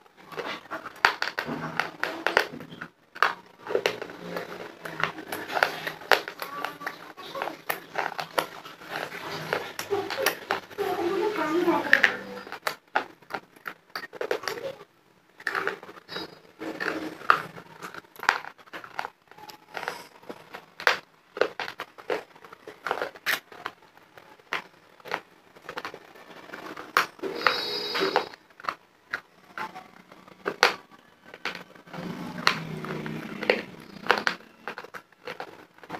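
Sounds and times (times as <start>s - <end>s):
chewing crunchy clay: 0.2s - 10.8s, 15.4s - 35.9s.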